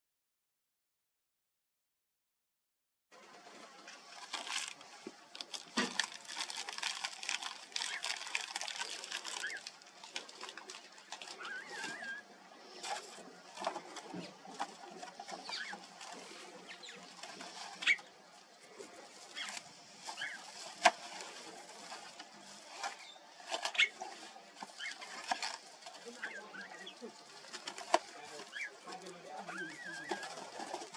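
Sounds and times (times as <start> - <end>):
lizards scuffling on gravel and leaves: 3.6 - 30.9.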